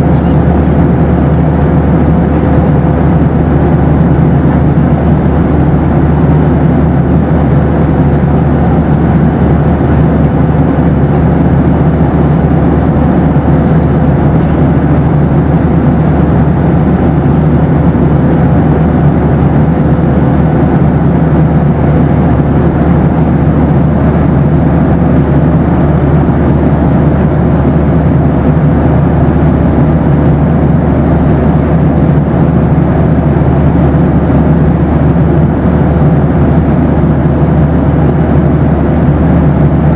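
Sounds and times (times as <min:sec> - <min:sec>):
airplane cabin engine rush: 0:00.0 - 0:39.9.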